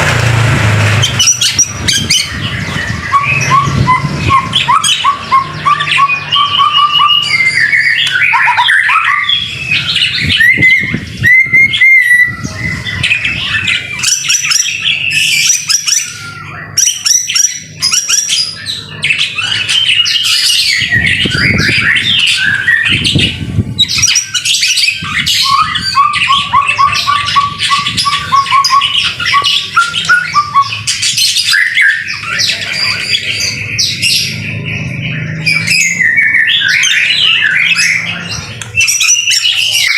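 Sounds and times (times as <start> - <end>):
songbird whistling and trilling: 1.0 - 39.9.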